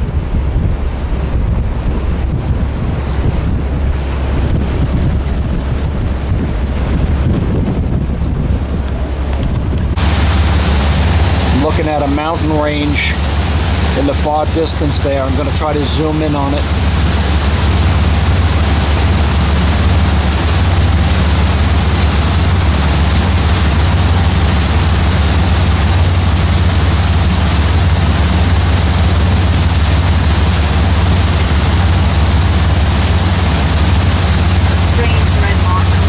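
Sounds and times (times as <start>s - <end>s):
boat engine droning: 0.0s - 36.0s
wind and water rushing: 0.0s - 36.0s.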